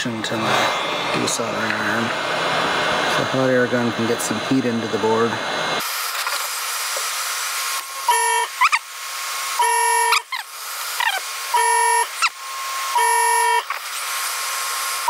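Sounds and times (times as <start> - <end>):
hot air gun hissing: 0.0 - 15.0.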